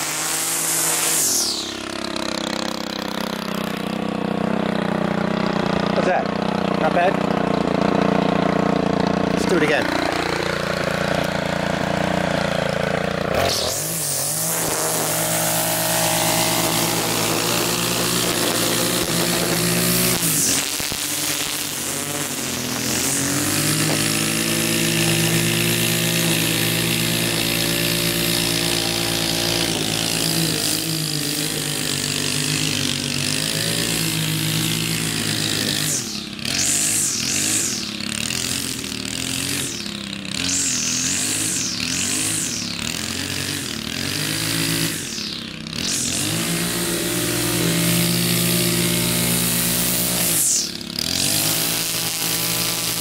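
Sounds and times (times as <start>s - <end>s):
string trimmer engine revving: 0.0s - 53.0s.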